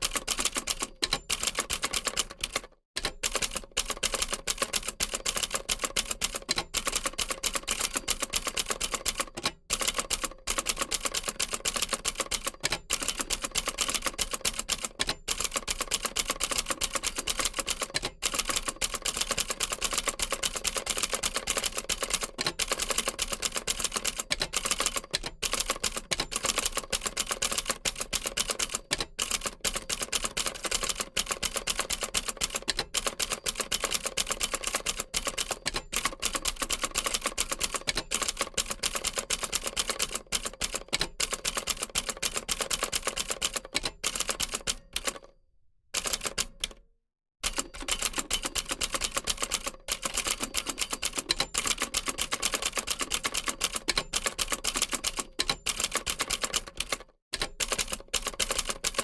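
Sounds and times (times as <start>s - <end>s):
manual typewriter typing: 0.0s - 45.3s, 46.0s - 46.8s, 47.4s - 59.0s.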